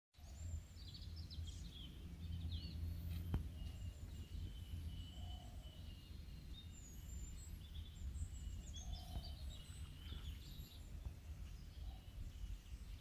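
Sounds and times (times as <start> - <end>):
birds chirping: 0.2 - 13.0.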